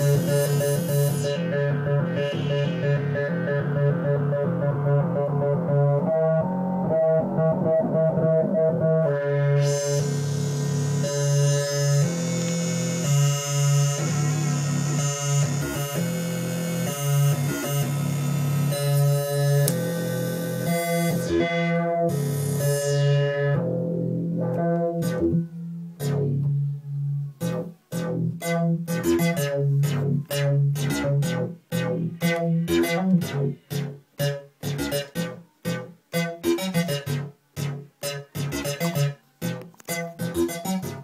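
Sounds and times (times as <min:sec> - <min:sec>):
analog synthesizer notes: 0:00.0 - 0:41.0.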